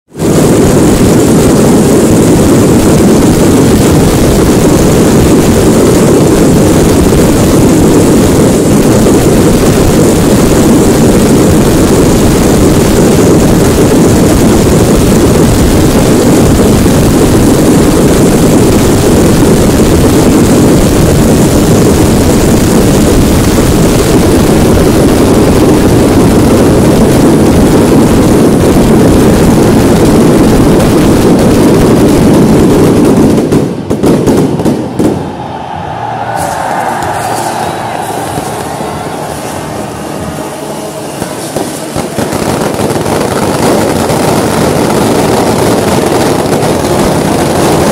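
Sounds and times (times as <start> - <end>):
firework fountain roaring: 0.1 - 47.9.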